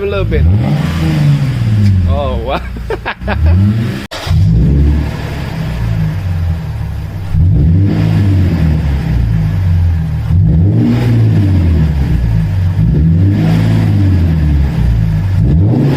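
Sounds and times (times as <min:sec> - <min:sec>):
car exhaust idling and revving: 0:00.0 - 0:15.9.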